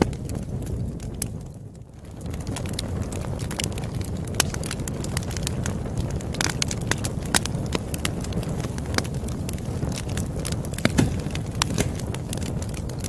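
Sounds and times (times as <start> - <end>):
campfire crackling and popping: 0.0 - 13.0
low rush of flames: 0.0 - 13.0.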